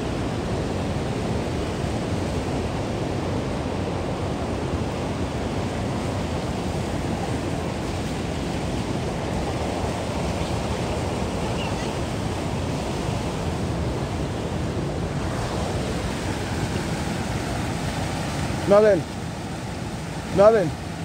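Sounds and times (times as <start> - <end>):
river water rushing over rock: 0.0 - 21.0.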